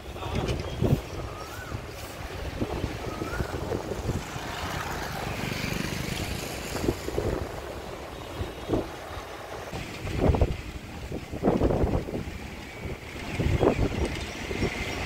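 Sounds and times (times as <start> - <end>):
street traffic noise: 0.0 - 15.0
wind on microphone: 0.0 - 15.0
motorbike passing: 1.6 - 15.0.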